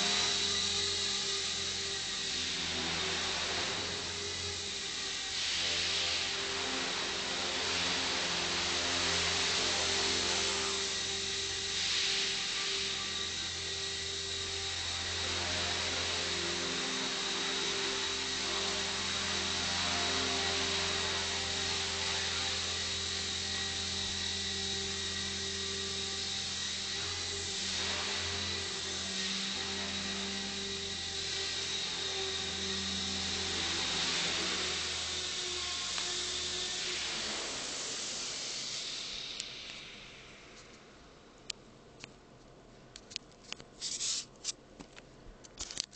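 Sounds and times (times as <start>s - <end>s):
rc helicopter motor whine: 0.0s - 40.8s.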